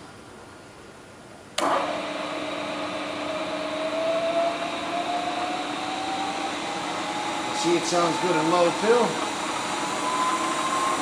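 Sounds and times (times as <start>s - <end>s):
milling machine motor whirring: 1.6s - 11.0s.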